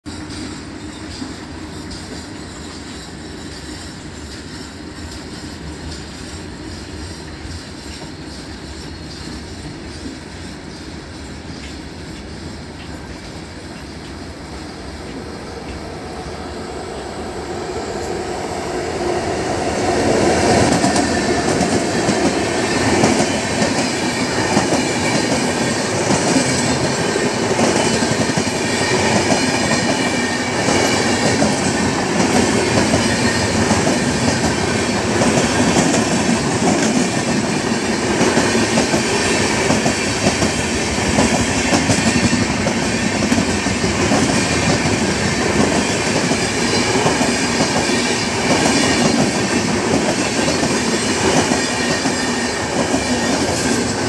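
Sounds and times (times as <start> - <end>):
train wheels running on rails: 0.0 - 54.0.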